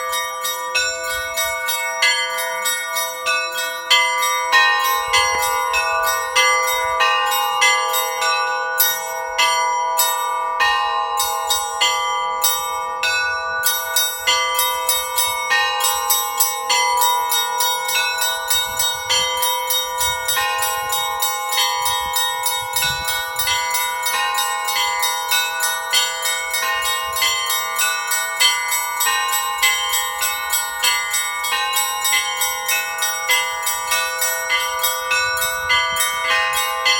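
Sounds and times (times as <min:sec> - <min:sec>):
church bells pealing: 0:00.0 - 0:36.9
low bell ringing: 0:00.0 - 0:36.9.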